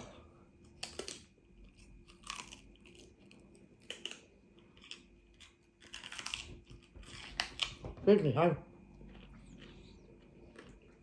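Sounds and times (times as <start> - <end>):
celery crunching while chewed: 0.0 - 8.2, 8.9 - 11.0.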